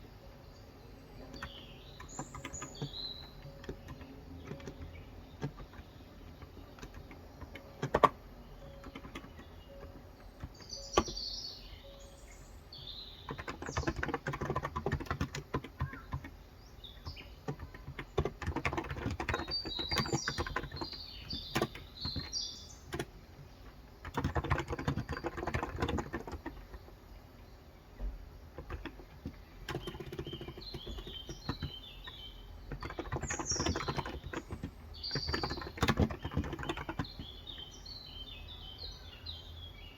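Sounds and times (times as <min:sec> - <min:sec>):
birds chirping: 0:00.0 - 0:39.9
rapid typing on a keyboard: 0:01.2 - 0:12.0, 0:12.8 - 0:27.2, 0:28.4 - 0:37.8.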